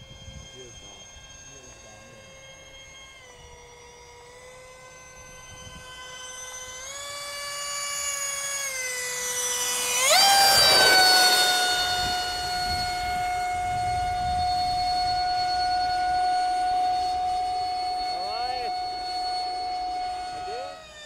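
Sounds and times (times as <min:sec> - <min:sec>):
electric ducted fans whining: 0:00.0 - 0:21.0.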